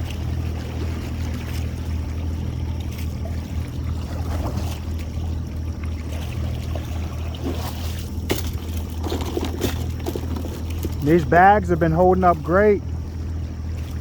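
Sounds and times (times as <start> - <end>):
boat motor running: 0.0 - 14.0
water trickling and splashing: 0.0 - 14.0.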